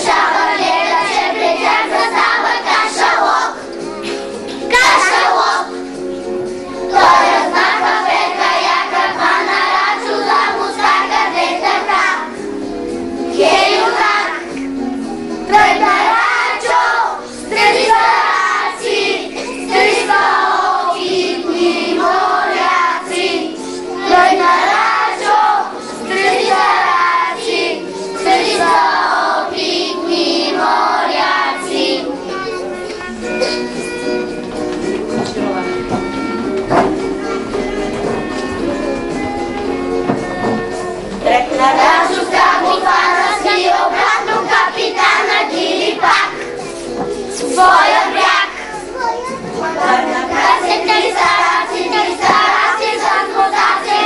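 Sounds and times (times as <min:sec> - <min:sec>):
accompanying music: 0:00.0 - 0:54.0
children singing together: 0:00.0 - 0:54.0.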